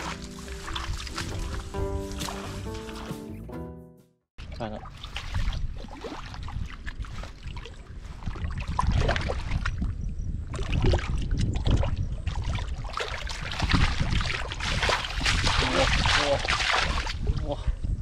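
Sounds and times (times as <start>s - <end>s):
water splashing and sloshing: 0.0s - 3.5s, 4.4s - 17.5s.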